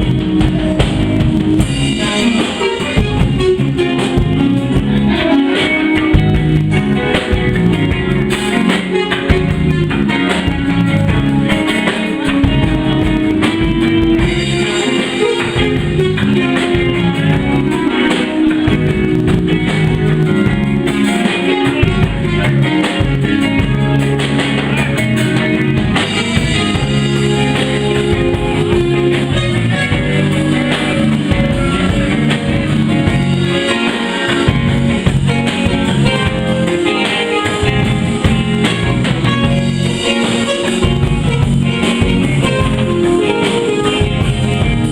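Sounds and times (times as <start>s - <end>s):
electric guitar: 0.0s - 44.9s
live blues band: 0.0s - 44.9s.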